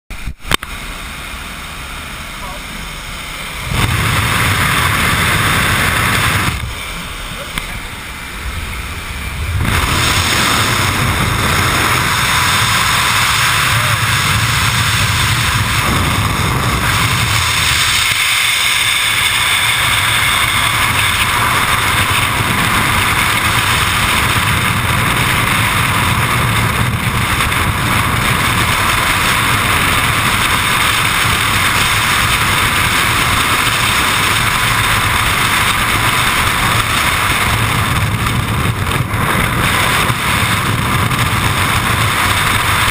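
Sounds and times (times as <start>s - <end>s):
wind rushing over microphone: 2.8s - 42.9s.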